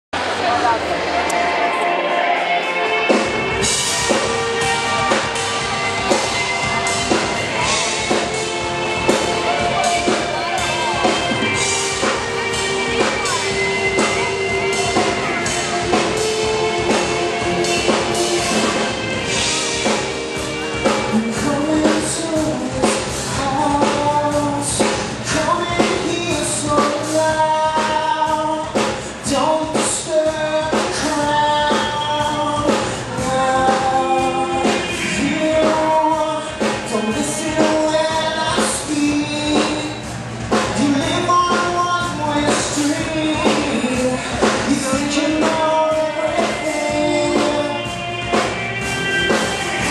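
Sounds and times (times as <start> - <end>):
lead vocal singing: 0.2 - 49.9
rock band playing: 0.2 - 49.9.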